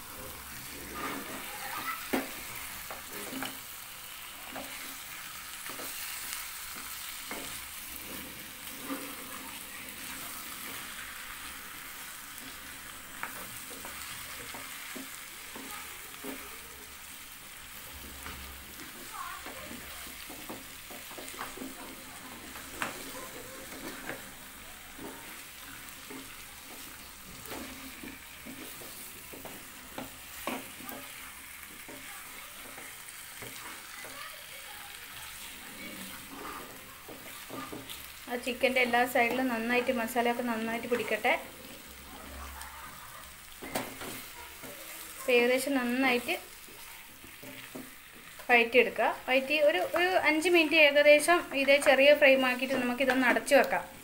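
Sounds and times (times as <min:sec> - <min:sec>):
chicken sizzling in a pan: 0:00.0 - 0:54.0
wooden spatula scraping a pan: 0:00.0 - 0:54.0.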